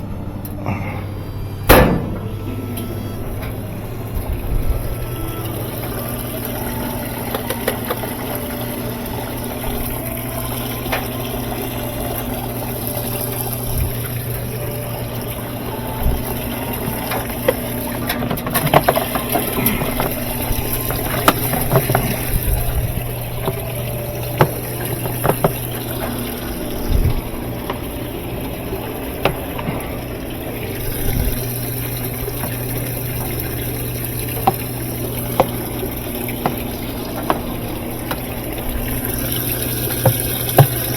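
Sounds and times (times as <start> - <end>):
washing machine motor hum: 0.0 - 40.9
water moving and pumped: 0.0 - 40.9.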